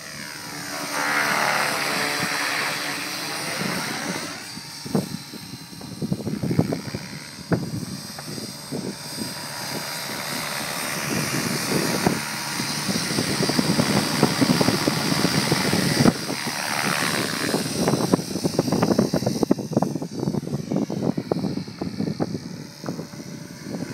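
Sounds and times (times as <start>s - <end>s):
model helicopter high whine: 0.0s - 23.9s
rotor blades chopping: 0.0s - 23.9s.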